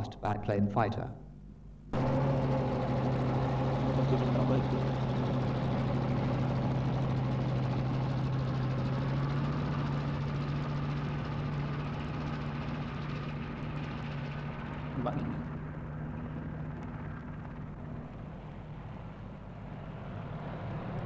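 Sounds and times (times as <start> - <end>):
radial engine droning: 2.0 - 21.0.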